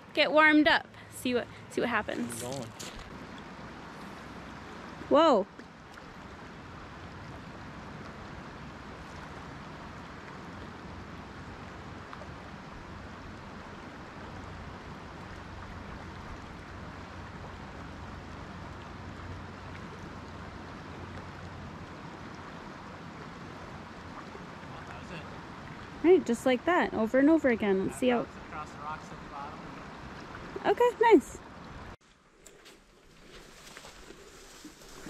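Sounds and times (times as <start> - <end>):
river water flowing: 0.0 - 35.0.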